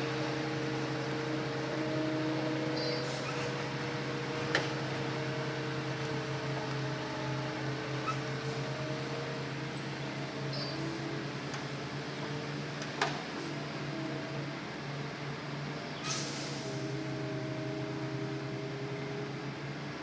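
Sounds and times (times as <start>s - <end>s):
excavator engine humming: 0.0s - 20.0s.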